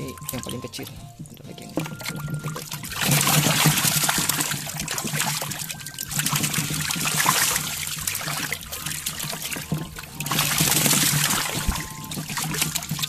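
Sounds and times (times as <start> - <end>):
low steady hum: 0.0 - 13.0
water splashing in bucket: 0.0 - 13.0
fish thrashing in net: 1.7 - 13.0.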